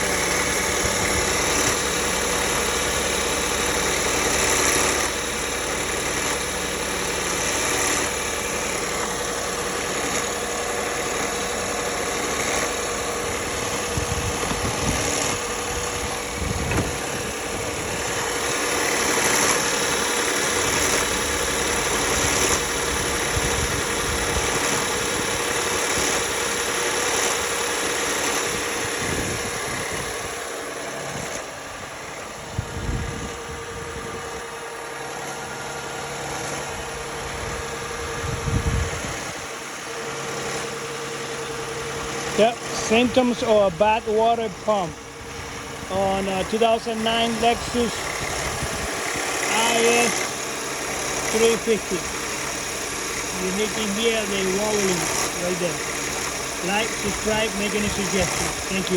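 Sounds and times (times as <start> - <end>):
car engine idling: 0.0 - 58.9
constant whine: 0.0 - 58.9.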